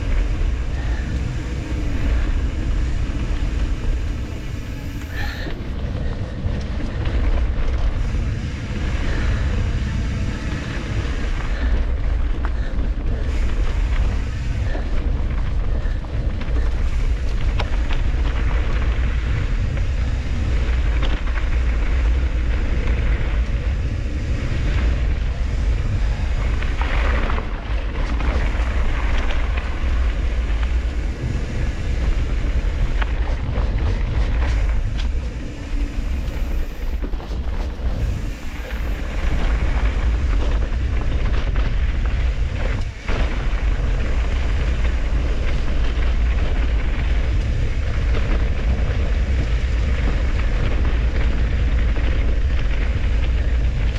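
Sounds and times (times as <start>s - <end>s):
tyres crunching over dirt and rocks: 0.0s - 53.9s
wind buffeting microphone: 0.0s - 53.9s.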